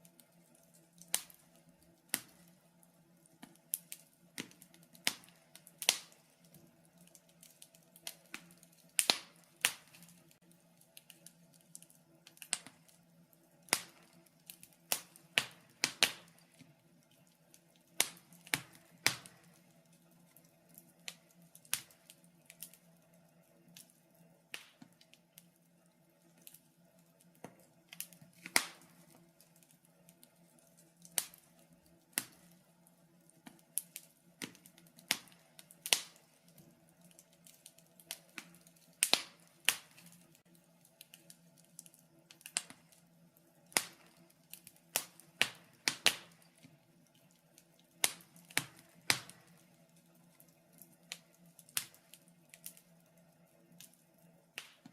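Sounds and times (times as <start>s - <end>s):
faint steady hum: 0.0s - 54.9s
fire crackling in a fireplace: 0.0s - 54.9s.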